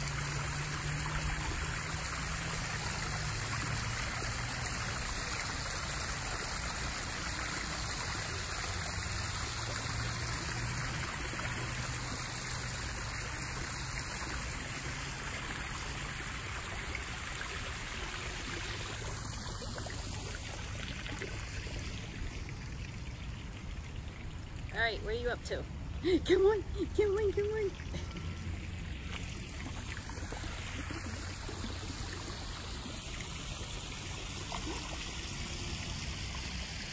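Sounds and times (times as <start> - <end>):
waterfall splashing into pond: 0.0 - 25.2, 27.1 - 36.9.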